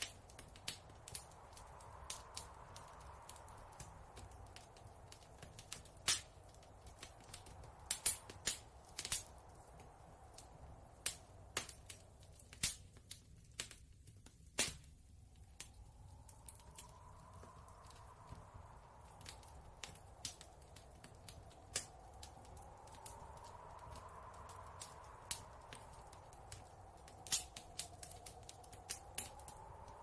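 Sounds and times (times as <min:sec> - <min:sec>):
campfire crackling and popping: 0:00.0 - 0:30.0
soft wind: 0:00.0 - 0:30.0.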